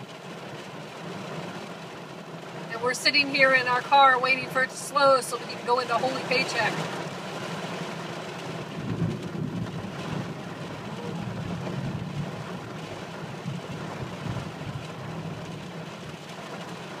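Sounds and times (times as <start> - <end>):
constant low rumble: 0.0 - 17.0
heavy rain on car roof: 0.0 - 17.0.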